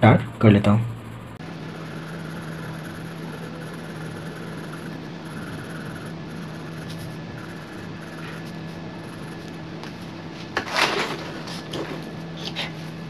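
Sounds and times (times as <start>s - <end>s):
low hum and hiss: 0.0s - 13.0s
pencil rubbing on paper: 0.9s - 13.0s.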